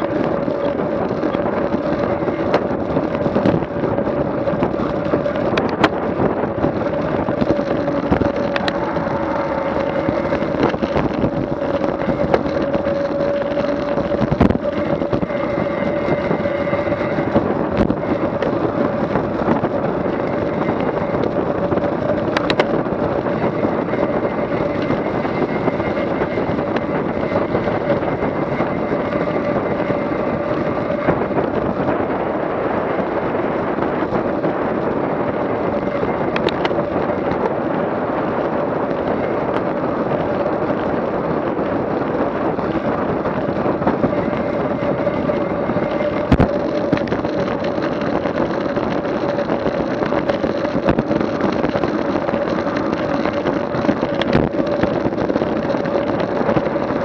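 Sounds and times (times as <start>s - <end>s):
dense rush of noise: 0.0s - 57.0s
engine running steadily: 0.0s - 57.0s.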